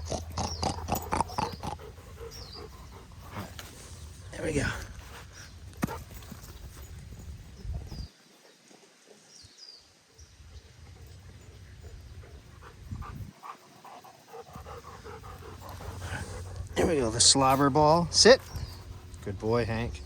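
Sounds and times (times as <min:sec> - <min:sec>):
faint dog sounds: 0:00.0 - 0:20.0.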